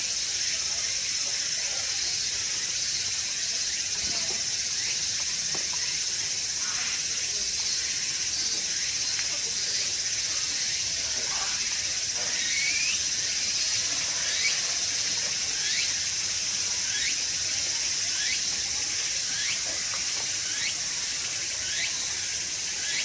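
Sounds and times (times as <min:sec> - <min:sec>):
high-pitched insect drone: 0:00.1 - 0:23.0.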